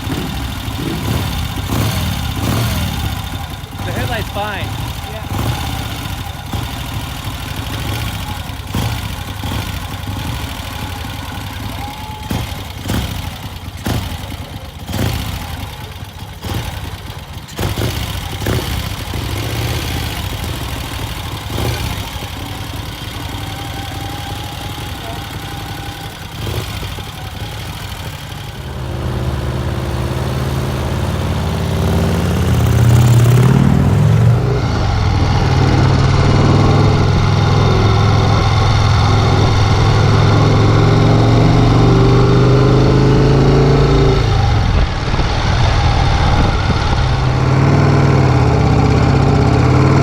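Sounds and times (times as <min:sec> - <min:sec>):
motorcycle engine idling and revving: 0:00.0 - 0:50.0.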